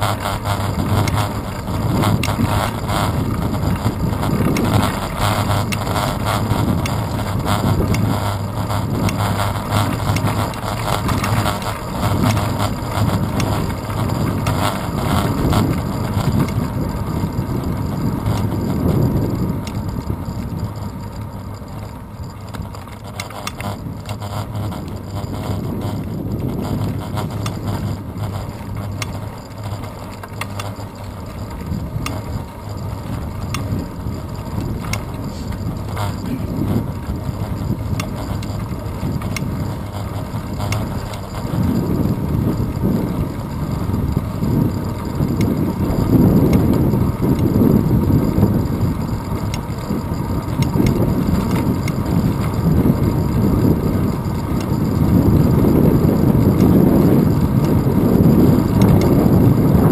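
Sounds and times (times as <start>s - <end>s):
wind on microphone: 0.0s - 21.2s, 22.6s - 29.8s, 31.5s - 59.9s
bicycle riding rumble on asphalt: 0.0s - 59.9s
rattles and knocks from vibration: 0.0s - 59.9s.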